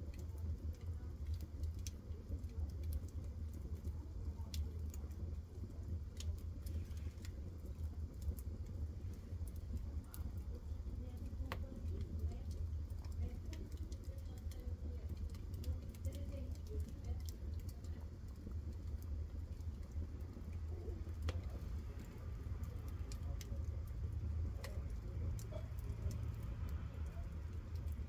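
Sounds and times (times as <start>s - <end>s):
stove fire low rumble: 0.0s - 28.0s
wood fire crackling: 0.0s - 28.0s.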